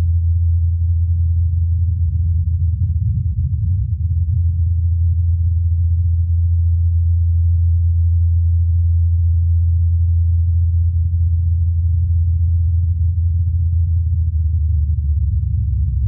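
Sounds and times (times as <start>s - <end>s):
faint rumble: 0.0s - 16.0s.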